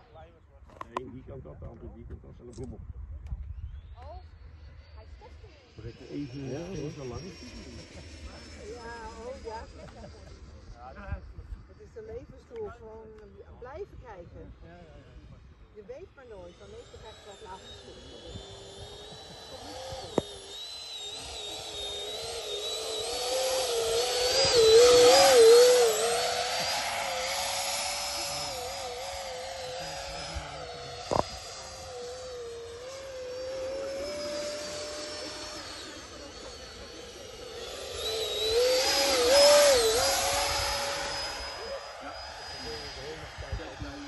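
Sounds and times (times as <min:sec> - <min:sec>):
model jet fan whining: 0:00.0 - 0:44.0.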